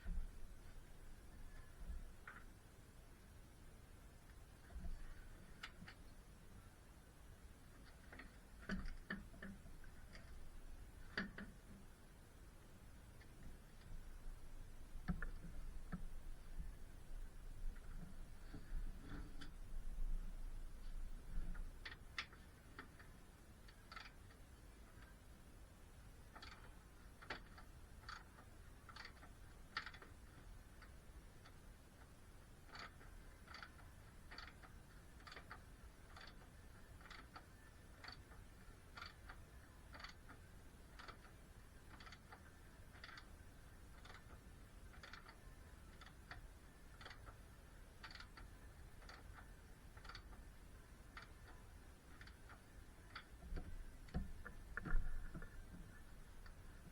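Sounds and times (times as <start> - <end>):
faint regular ticking: 0.0 - 56.9.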